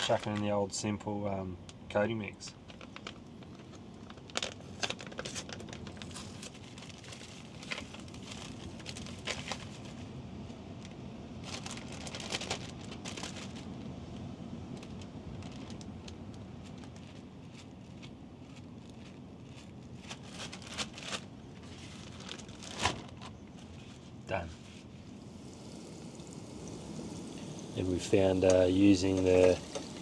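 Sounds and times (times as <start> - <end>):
crinkling and rustling: 0.0 - 0.9, 1.6 - 26.3, 27.0 - 30.0.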